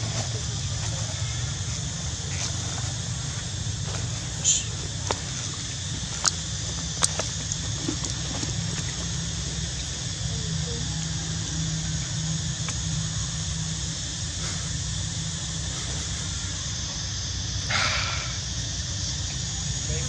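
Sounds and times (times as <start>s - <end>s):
even hiss: 0.0s - 20.0s
low hum: 0.0s - 20.0s.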